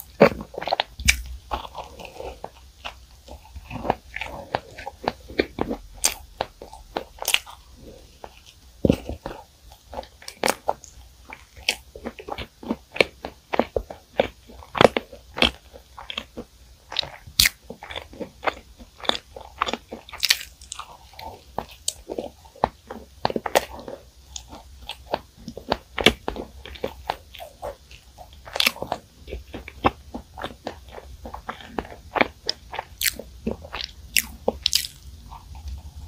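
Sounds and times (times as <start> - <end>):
crunching crisp pastry: 0.0 - 36.0.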